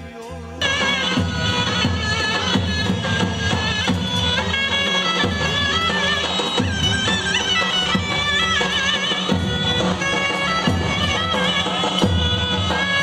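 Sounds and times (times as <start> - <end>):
shrill reed wind instrument melody: 0.0 - 13.0
low drum accompaniment: 0.6 - 13.0.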